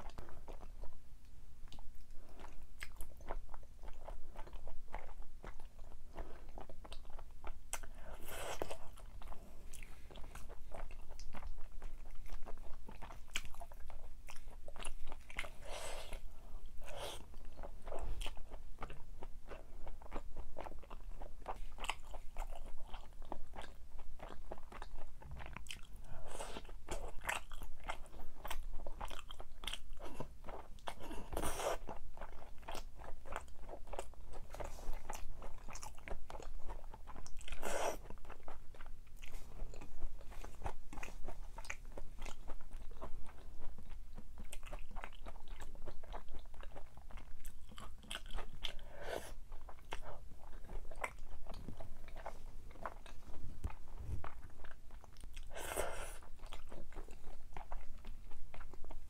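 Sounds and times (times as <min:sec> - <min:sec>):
person chewing crunchy food: 0:00.0 - 0:01.0, 0:01.7 - 0:59.0.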